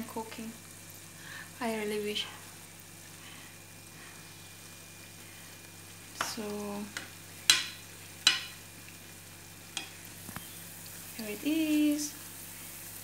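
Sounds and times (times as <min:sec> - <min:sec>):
oil sizzling in a pot: 0:00.0 - 0:13.0.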